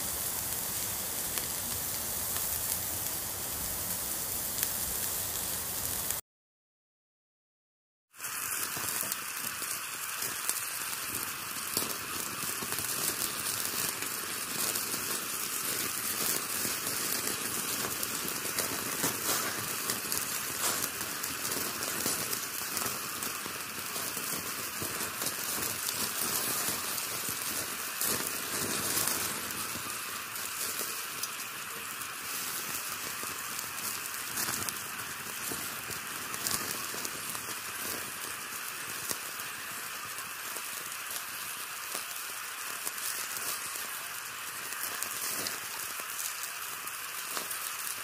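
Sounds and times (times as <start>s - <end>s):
charcoal crackling and popping: 0.0s - 6.2s, 8.2s - 48.0s
meat sizzling on a grill: 0.0s - 6.2s, 8.1s - 48.0s.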